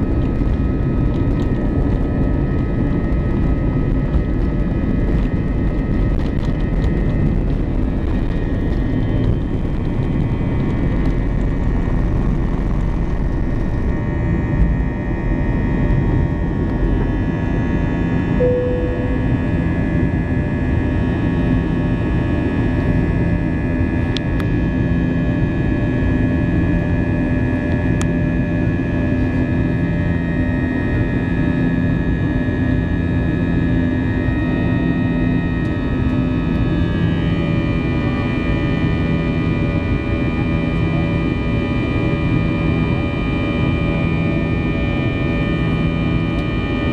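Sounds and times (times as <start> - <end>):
jet engines rushing and whining: 0.0 - 46.9.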